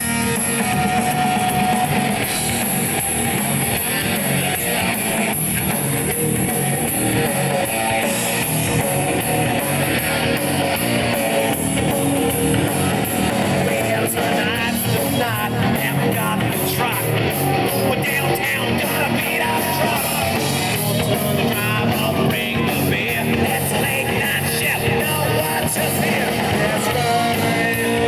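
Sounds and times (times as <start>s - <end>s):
bass guitar: 0.0s - 28.0s
drums: 0.0s - 28.0s
electric guitar: 0.0s - 28.0s.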